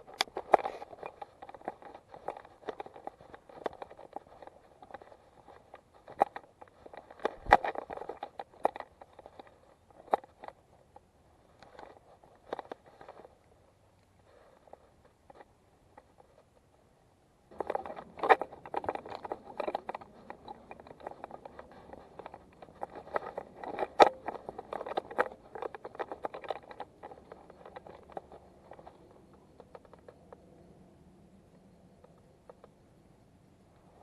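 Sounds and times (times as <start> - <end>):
clicks and scraping: 0.0 - 16.6, 17.5 - 30.7.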